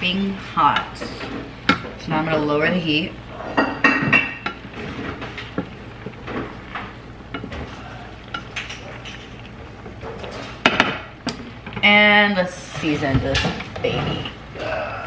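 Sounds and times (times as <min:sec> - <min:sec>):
low sizzle: 0:00.0 - 0:15.0.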